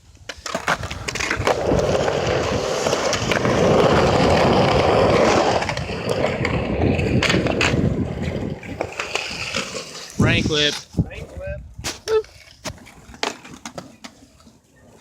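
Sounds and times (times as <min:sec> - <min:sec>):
skateboard wheels rolling on pavement: 0:00.0 - 0:15.0
skateboard clacks: 0:00.1 - 0:10.8, 0:12.1 - 0:15.0.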